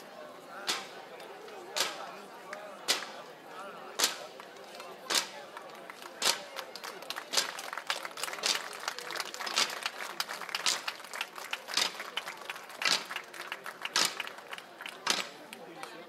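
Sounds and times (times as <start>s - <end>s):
crowd murmur: 0.0s - 16.0s.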